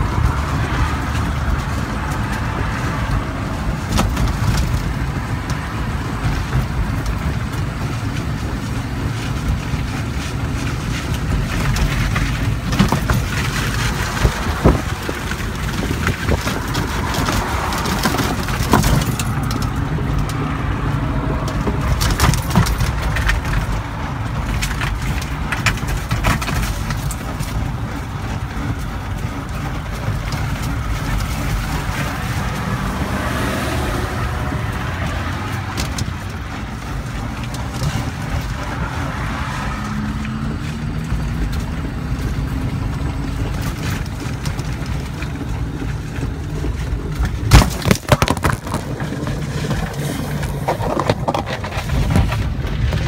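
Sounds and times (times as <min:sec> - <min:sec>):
knocks and rattles over bumps: 0:00.0 - 0:53.0
tricycle wheels rumbling on concrete: 0:00.0 - 0:53.0.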